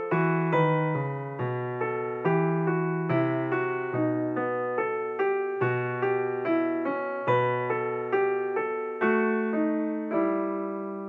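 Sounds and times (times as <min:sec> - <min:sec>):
slow solo piano melody: 0:00.0 - 0:11.0.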